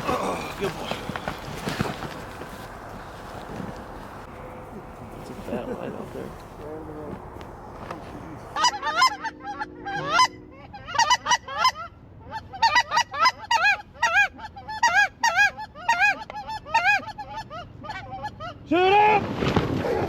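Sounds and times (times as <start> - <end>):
faint steady hum: 0.0 - 18.7
geese honking: 0.0 - 18.8.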